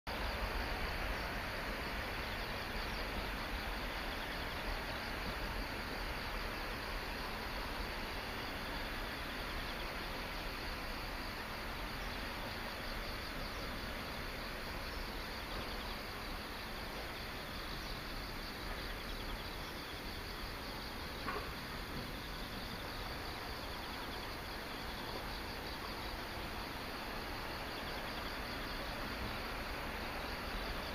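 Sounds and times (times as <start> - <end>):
constant background hiss: 0.1 - 30.9
insects chirping: 0.1 - 30.9.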